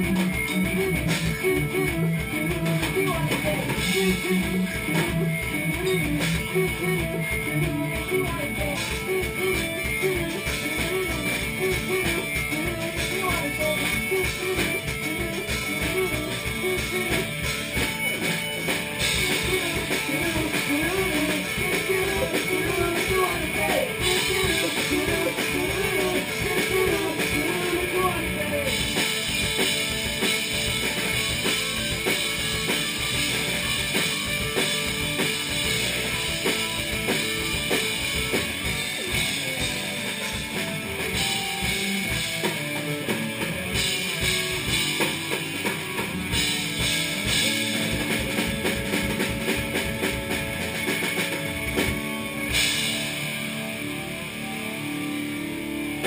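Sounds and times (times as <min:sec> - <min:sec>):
drum kit: 0:00.0 - 0:56.0
guitars: 0:00.0 - 0:56.0
melody line: 0:00.0 - 0:56.0.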